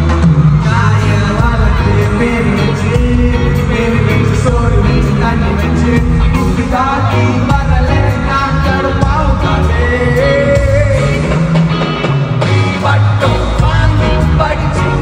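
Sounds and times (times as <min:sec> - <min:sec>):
bass beat: 0:00.0 - 0:15.0
live band music: 0:00.0 - 0:15.0
person singing: 0:00.0 - 0:15.0.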